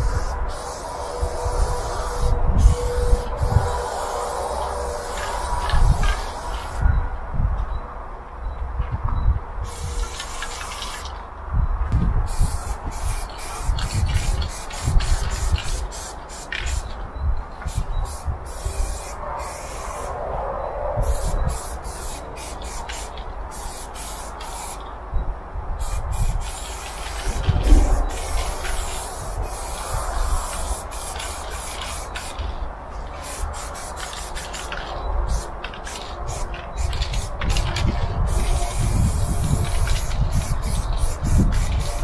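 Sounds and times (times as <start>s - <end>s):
aerosol spray can hissing: 0.0s - 6.8s, 9.7s - 11.0s, 12.3s - 16.9s, 17.7s - 20.1s, 21.1s - 24.8s, 25.8s - 32.4s, 33.2s - 37.7s, 38.3s - 42.0s.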